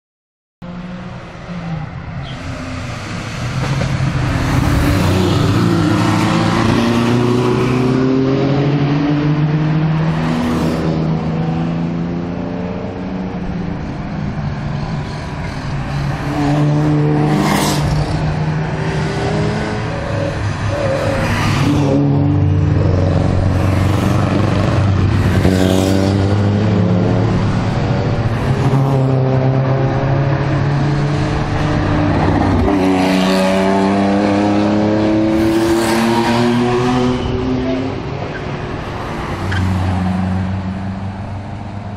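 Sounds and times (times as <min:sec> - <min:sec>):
race car engines revving: 0:00.6 - 0:41.9.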